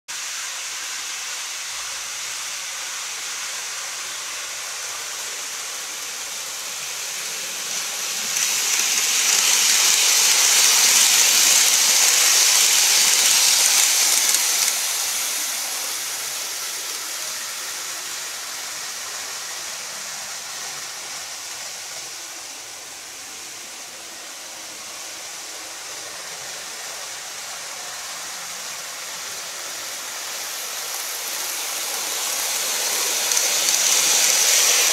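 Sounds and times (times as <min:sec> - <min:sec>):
model train rolling on track: 0:00.1 - 0:34.9.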